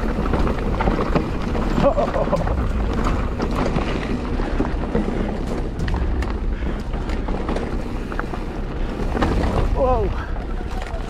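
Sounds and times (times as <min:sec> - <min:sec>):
bike clicks and rattles: 0:00.0 - 0:11.0
tyres rolling on dirt: 0:00.0 - 0:11.0
wind rumbling on microphone: 0:00.0 - 0:11.0.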